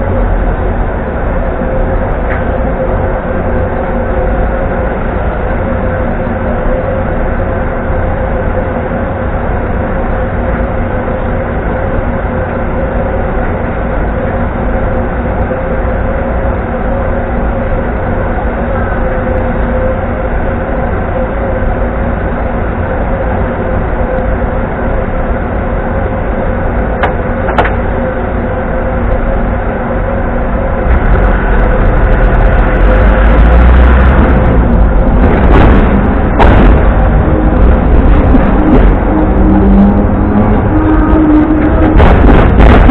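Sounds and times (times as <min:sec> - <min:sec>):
electric tram rumbling on track: 0:00.0 - 0:42.9
tram whine: 0:00.0 - 0:42.9.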